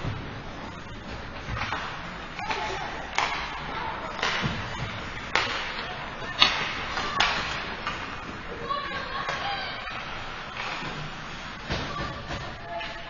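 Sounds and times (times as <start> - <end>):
hockey sticks clacking on puck: 1.4 - 13.0.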